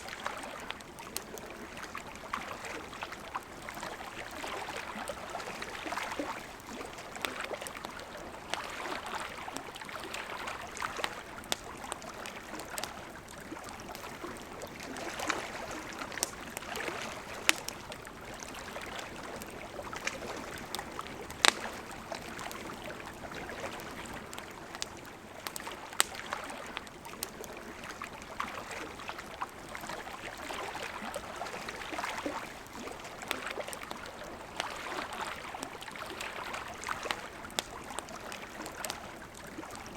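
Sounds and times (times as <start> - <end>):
campfire crackling and popping: 0.0 - 39.9
flowing river: 0.0 - 39.9.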